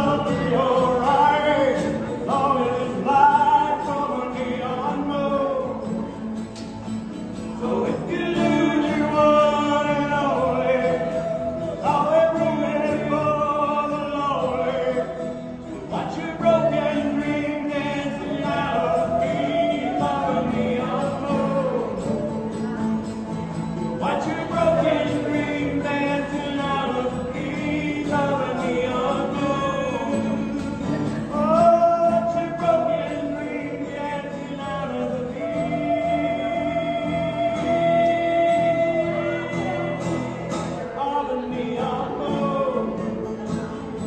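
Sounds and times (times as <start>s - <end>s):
person singing: 0.0s - 6.3s, 7.4s - 44.0s.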